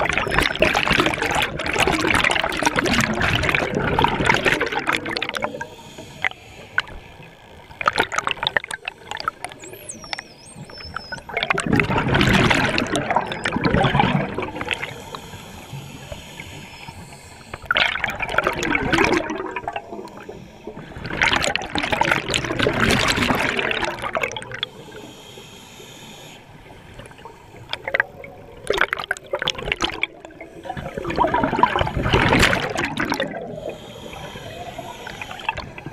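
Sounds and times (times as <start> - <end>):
regulator bubbling underwater: 0.0 - 25.1, 26.6 - 35.9.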